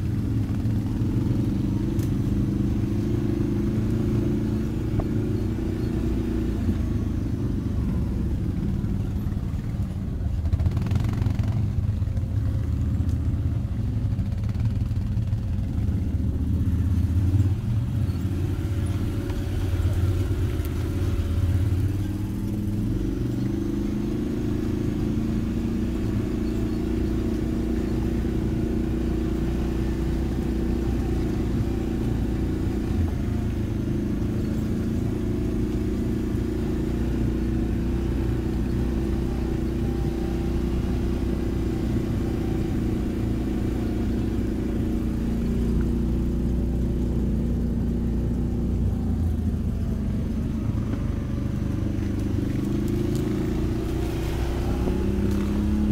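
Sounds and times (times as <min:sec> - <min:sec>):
quad bike engine running: 0:00.0 - 0:55.9.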